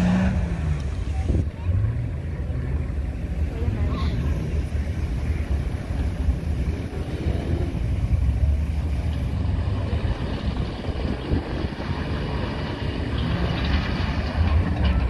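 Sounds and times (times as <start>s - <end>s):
suv engine rumbling: 0.0s - 15.0s
tires rolling on gravel: 0.0s - 15.0s.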